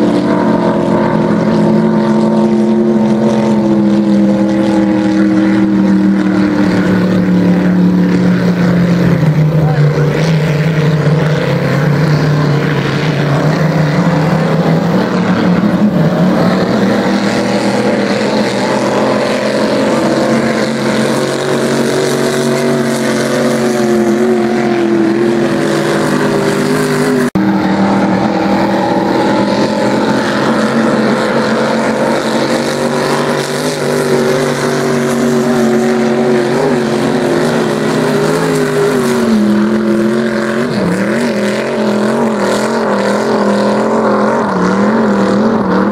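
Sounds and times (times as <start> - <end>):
racing boat engine droning: 0.0 - 45.9.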